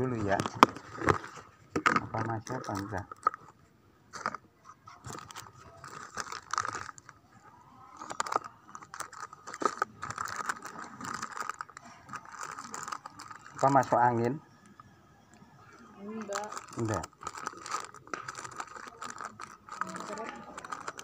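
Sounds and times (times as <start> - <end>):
items being handled: 0.0 - 7.2, 8.0 - 14.3, 16.0 - 21.0.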